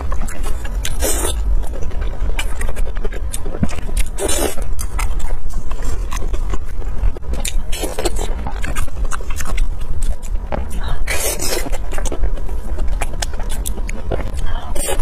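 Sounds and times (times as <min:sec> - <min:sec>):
steady low rumble: 0:00.0 - 0:15.0
wet chewing and mouth clicks: 0:00.0 - 0:15.0.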